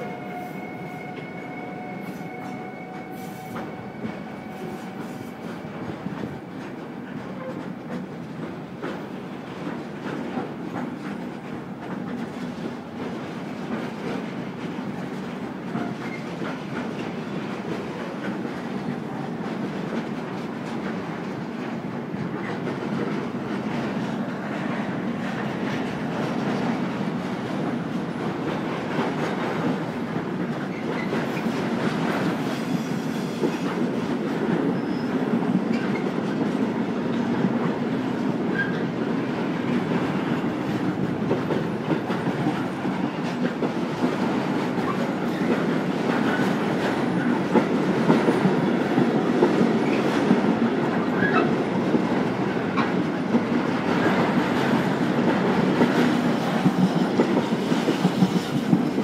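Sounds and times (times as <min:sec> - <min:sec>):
freight train rolling past: 0:00.0 - 0:59.0
wheels clacking on rails: 0:00.0 - 0:59.0.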